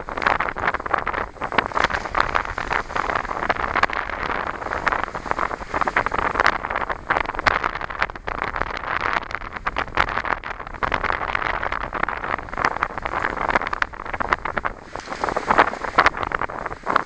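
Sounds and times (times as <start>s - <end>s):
sea water washing: 0.0s - 17.0s
wind gusting across microphone: 0.0s - 17.0s.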